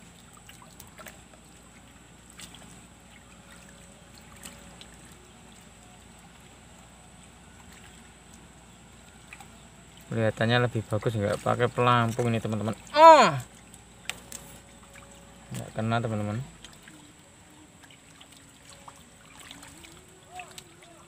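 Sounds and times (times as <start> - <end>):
faint outdoor background noise: 0.0 - 21.0.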